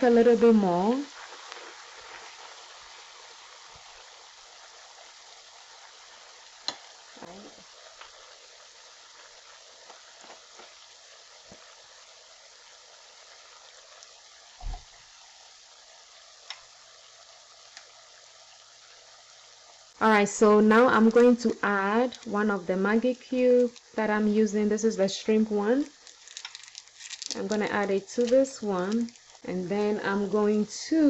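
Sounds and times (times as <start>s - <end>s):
spices sizzling in oil: 0.0s - 31.0s.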